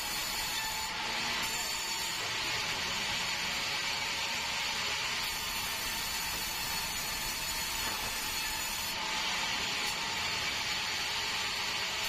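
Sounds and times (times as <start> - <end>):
band saw cutting wood: 0.0 - 12.0.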